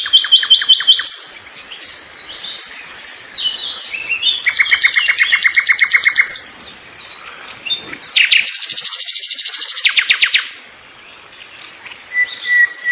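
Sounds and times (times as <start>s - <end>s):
bird trills: 0.0s - 10.7s
bird chirps: 0.0s - 12.9s.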